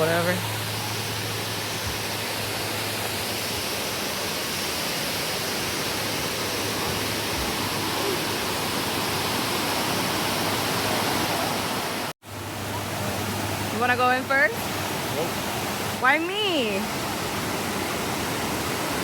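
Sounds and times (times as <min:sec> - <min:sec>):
water cascading over rock: 0:00.0 - 0:19.0.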